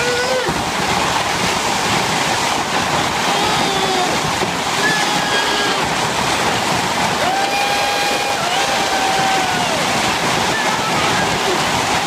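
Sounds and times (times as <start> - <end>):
hail and heavy rain on roof: 0.0 - 12.0.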